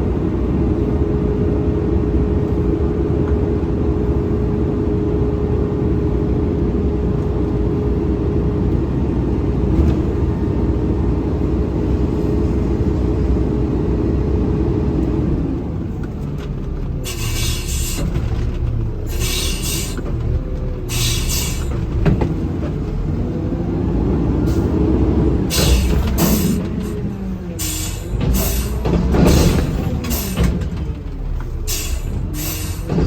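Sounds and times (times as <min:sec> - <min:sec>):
truck engine rumble: 0:00.0 - 0:33.0.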